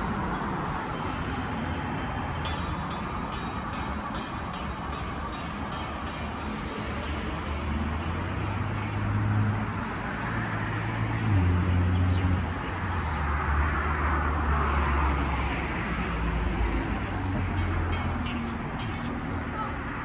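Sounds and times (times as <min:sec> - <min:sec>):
vehicles passing on road: 0:00.0 - 0:20.0.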